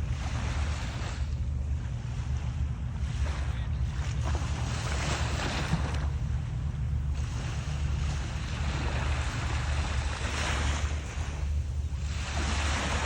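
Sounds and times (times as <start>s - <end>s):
waves washing onto shore: 0.0s - 13.0s
wind rumbling on microphone: 0.0s - 13.0s.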